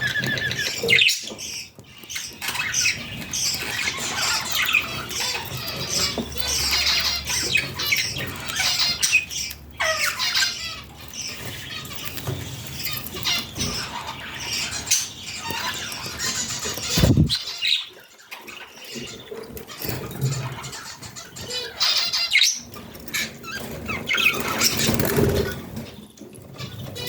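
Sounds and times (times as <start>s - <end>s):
budgerigar chicks chirping: 0.0s - 27.0s.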